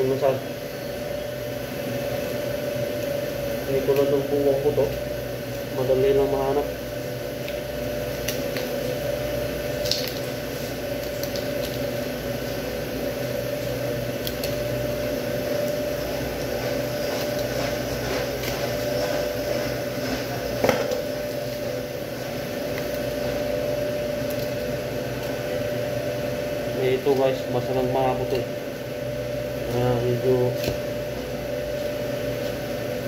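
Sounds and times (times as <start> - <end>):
steady machine hum: 0.0 - 33.0.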